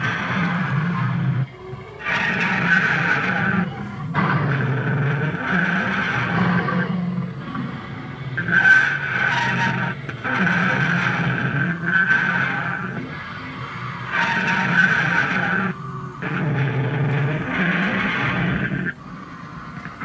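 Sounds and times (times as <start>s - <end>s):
dinosaur model roars and growls: 0.0s - 20.0s.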